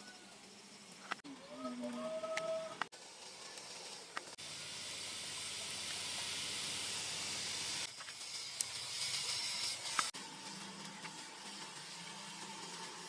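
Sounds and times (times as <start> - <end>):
steam hissing from a pot: 0.0 - 13.0.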